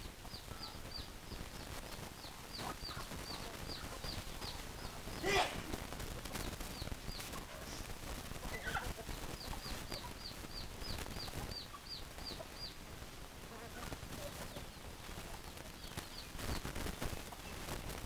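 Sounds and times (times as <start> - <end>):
chick peeping: 0.0 - 18.0
chickens clucking: 0.0 - 18.0.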